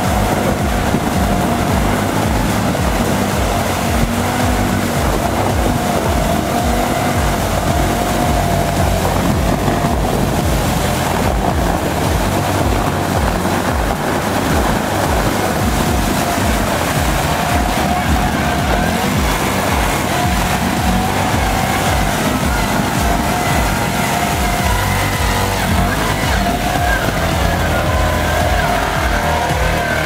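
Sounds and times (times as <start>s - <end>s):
tires splashing water: 0.0s - 30.0s
vehicle engine running with whine: 0.0s - 30.0s.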